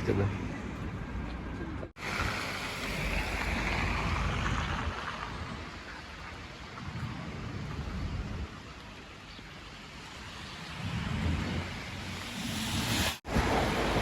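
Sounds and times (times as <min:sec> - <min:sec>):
wind buffeting microphone: 0:00.8 - 0:14.0.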